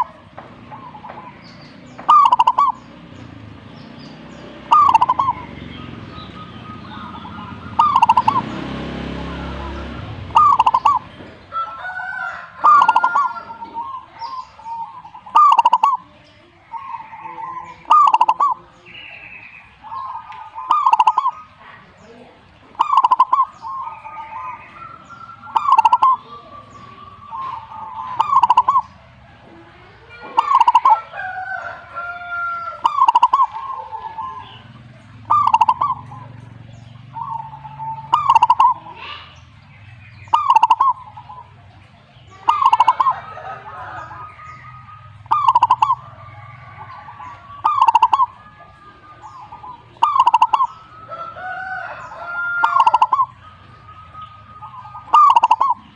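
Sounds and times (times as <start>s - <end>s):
faint bird chirps: 0.0s - 8.5s, 12.6s - 29.0s, 32.8s - 51.2s, 51.8s - 55.9s
dove cooing: 0.0s - 55.9s.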